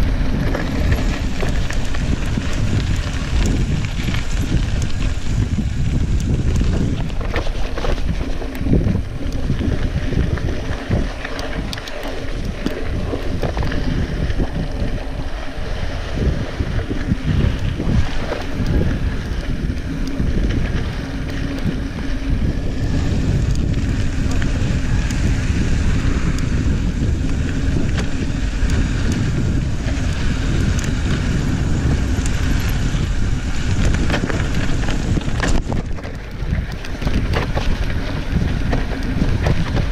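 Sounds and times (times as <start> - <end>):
bike clicks and rattles: 0.0 - 39.9
tyres crunching on gravel: 0.0 - 39.9
wind buffeting microphone: 0.0 - 39.9.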